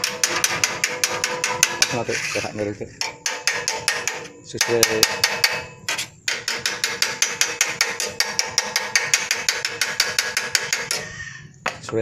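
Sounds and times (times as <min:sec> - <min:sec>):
hammer tapping on steel sheet: 0:00.0 - 0:02.0, 0:03.0 - 0:11.9.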